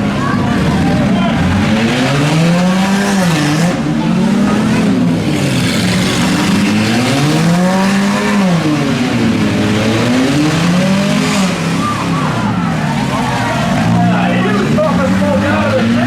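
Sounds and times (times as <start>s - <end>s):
car engines revving loudly: 0.0s - 16.0s.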